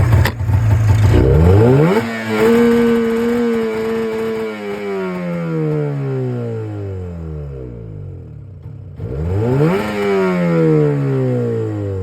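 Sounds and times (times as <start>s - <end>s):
snowmobile engine revving: 0.0s - 7.0s, 9.0s - 12.0s.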